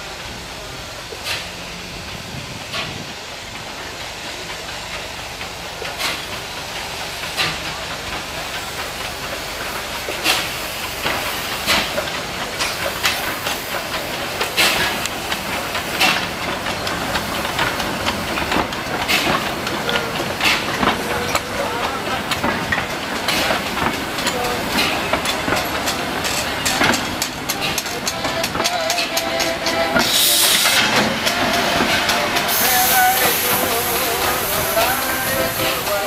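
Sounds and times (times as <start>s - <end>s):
steam hissing: 0.0s - 36.0s
steam locomotive chuffing: 0.0s - 36.0s
wheels clicking over rail joints: 1.1s - 36.0s.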